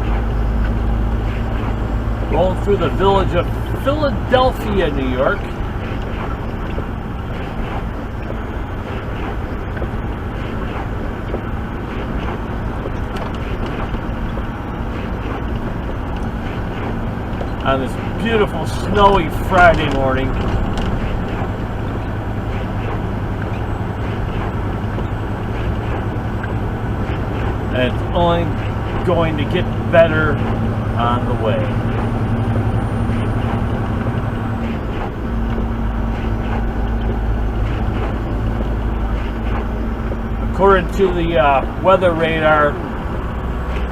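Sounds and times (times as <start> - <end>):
engine and road noise in cab: 0.0 - 43.9.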